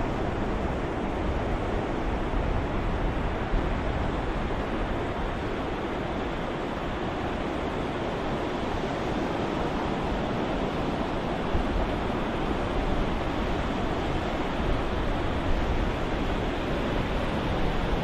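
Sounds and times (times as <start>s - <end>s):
ocean waves washing: 0.0s - 18.0s.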